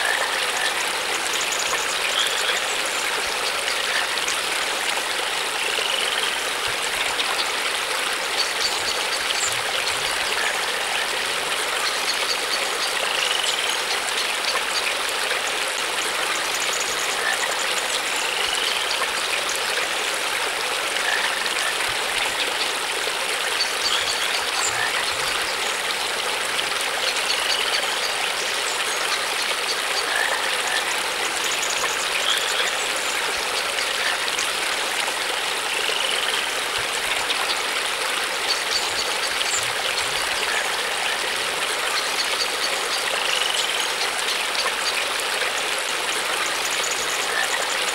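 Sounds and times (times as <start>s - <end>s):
flowing water: 0.0s - 47.9s.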